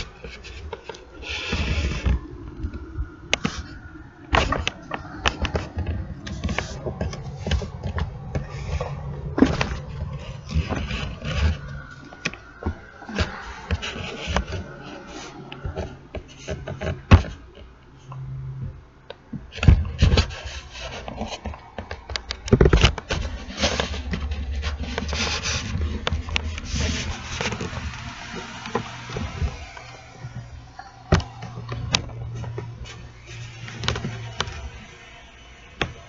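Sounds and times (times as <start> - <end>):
low hum: 0.0 - 36.0.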